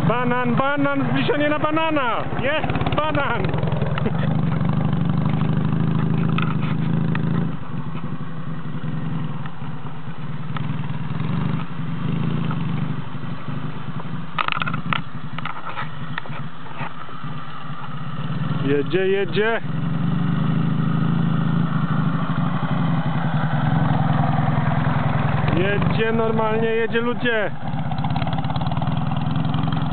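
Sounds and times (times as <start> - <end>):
motorcycle engine pulling away: 0.0 - 29.9.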